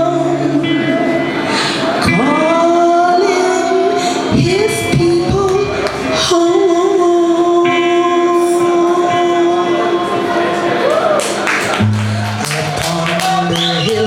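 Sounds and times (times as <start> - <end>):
live band long held note: 0.0 - 14.0.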